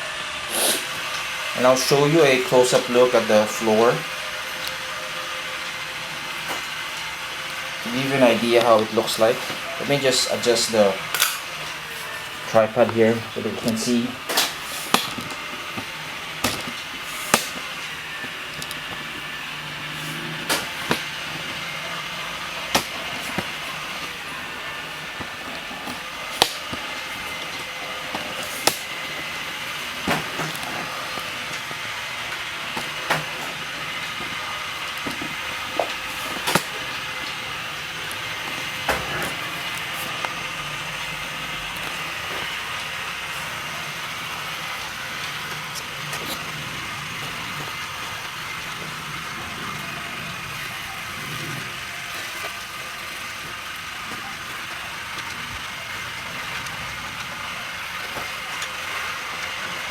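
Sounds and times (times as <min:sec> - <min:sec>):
robot vacuum whirring: 0:00.0 - 0:59.9.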